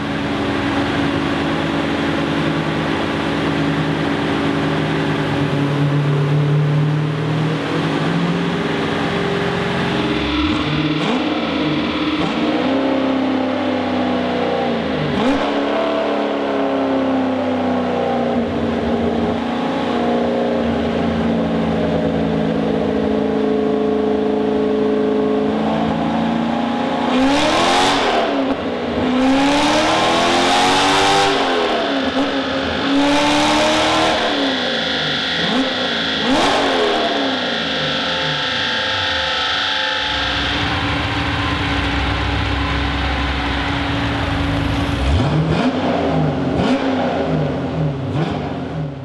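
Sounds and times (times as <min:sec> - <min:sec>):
car engine idling: 0:00.0 - 0:27.3, 0:30.2 - 0:49.0
engine revving: 0:00.0 - 0:49.0.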